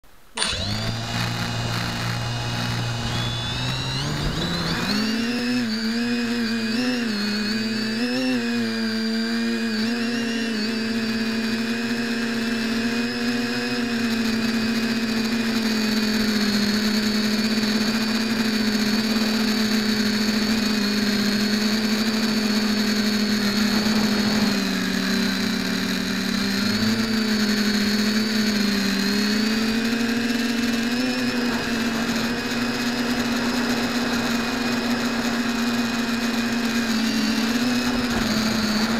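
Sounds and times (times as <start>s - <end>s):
quadcopter motors buzzing: 0.1s - 38.9s.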